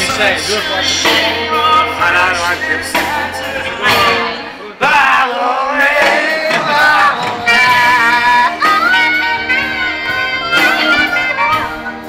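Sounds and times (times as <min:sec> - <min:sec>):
sliding long held lead notes: 0:00.0 - 0:05.7, 0:06.4 - 0:12.0
live band playing amplified music: 0:00.0 - 0:12.0.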